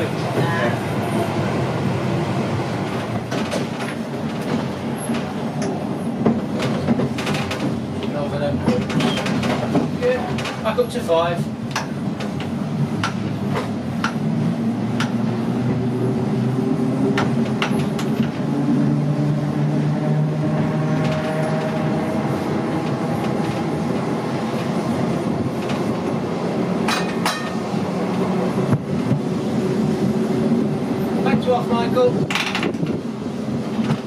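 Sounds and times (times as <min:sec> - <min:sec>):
tram electric motors humming: 0:00.0 - 0:34.0.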